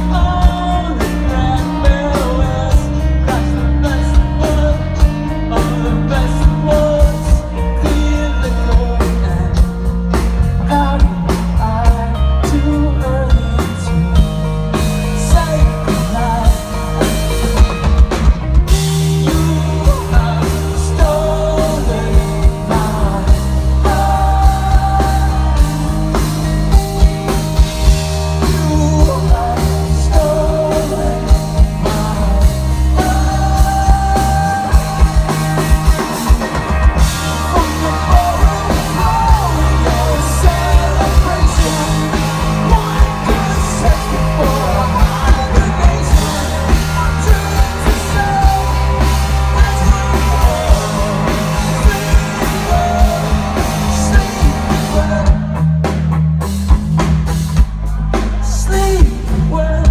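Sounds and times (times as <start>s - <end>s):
person singing lead vocal: 0.0s - 17.8s, 18.7s - 56.0s, 57.9s - 59.9s
bass guitar: 0.0s - 59.9s
drums: 0.0s - 59.9s
electric guitars: 0.0s - 59.9s.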